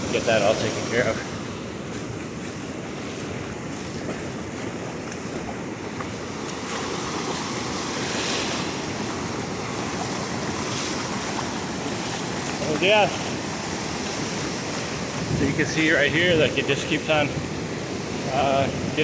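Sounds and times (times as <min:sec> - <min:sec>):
surf breaking on sand: 0:00.0 - 0:19.0
wind buffeting microphone: 0:00.0 - 0:19.0.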